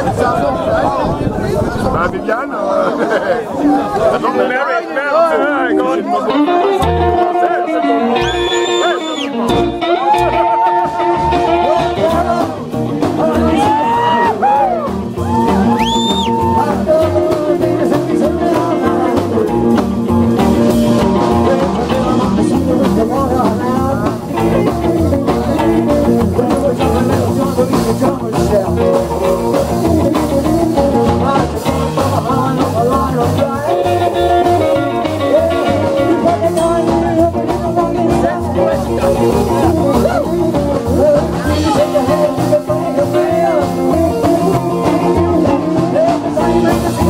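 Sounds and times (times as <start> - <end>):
man singing: 3.6 - 47.0
electric guitar: 5.3 - 47.0
upright double bass: 6.4 - 7.4, 8.1 - 47.0
drums beating: 8.2 - 47.0.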